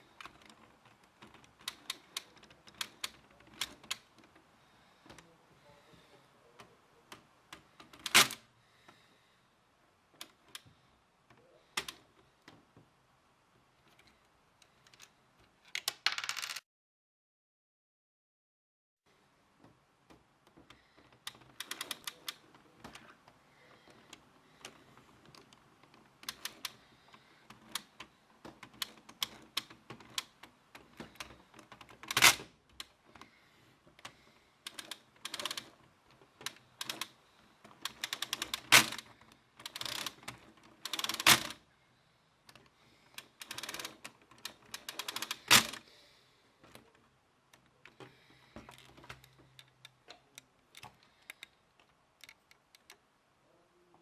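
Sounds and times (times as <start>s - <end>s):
plastic parts clicking and rattling: 0.0s - 5.3s, 6.0s - 8.5s, 10.1s - 12.8s, 13.8s - 16.6s, 19.5s - 41.7s, 42.4s - 45.9s, 46.6s - 53.1s.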